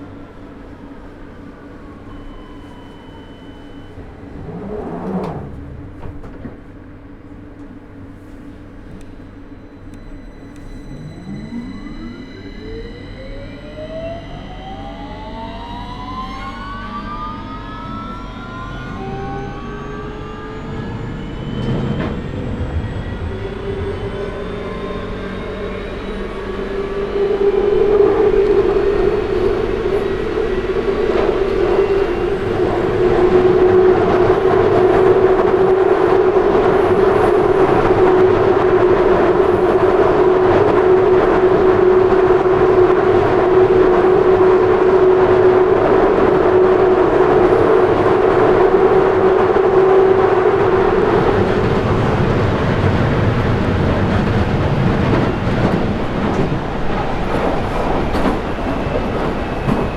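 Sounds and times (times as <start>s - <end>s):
train traction motors whining: 0.0s - 59.9s
wheel and tunnel noise: 0.0s - 59.9s.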